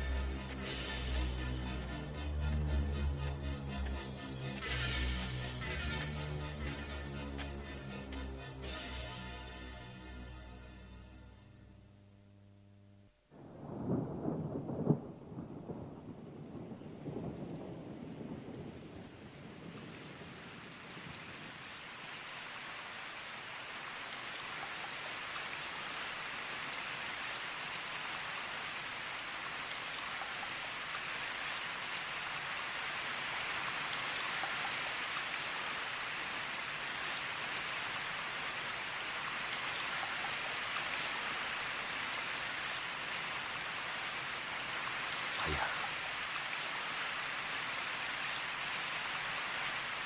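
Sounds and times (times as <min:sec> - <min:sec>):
heavy rain falling: 0:00.0 - 0:10.5, 0:13.3 - 0:50.0.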